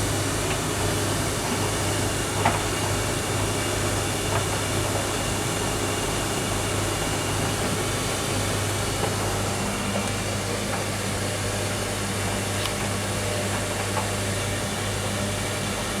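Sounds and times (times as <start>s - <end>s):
tumble dryer running: 0.0s - 16.0s.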